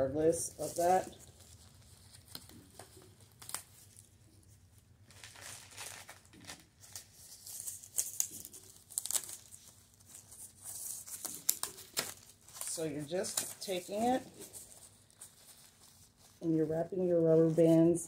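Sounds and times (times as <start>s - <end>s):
plastic crinkling and rustling: 0.2s - 18.0s.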